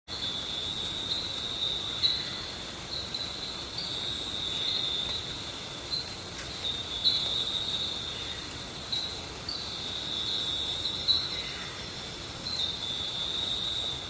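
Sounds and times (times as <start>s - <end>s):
insect chorus chirring: 0.1s - 14.0s.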